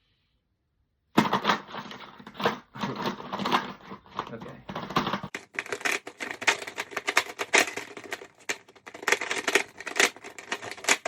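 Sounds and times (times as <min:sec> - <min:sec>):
plastic puzzle cube clicking: 0:01.2 - 0:11.0.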